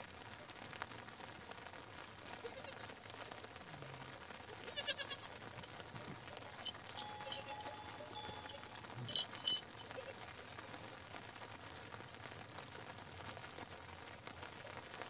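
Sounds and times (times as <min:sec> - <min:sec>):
steady rain pattering: 0:00.0 - 0:15.0.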